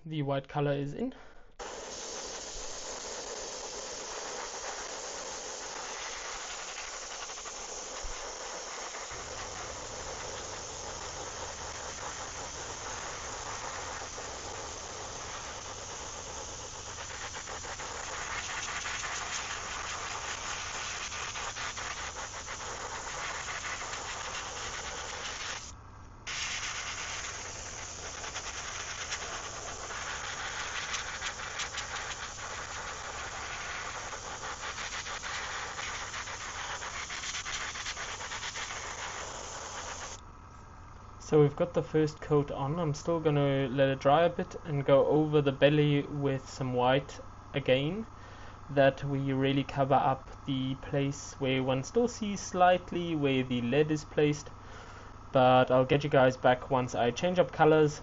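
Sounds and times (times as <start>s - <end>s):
airbrush spraying hiss: 1.5s - 40.2s, 49.7s - 58.0s.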